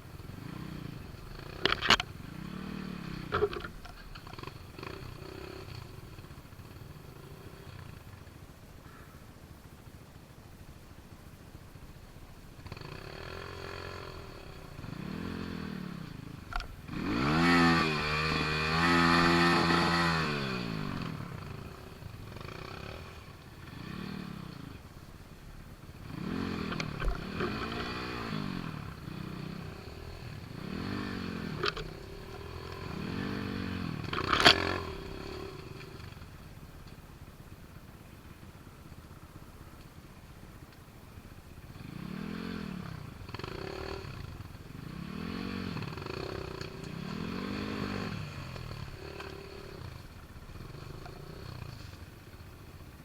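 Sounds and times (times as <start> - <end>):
motorcycle engine revving: 0.0 - 9.0, 12.6 - 53.0.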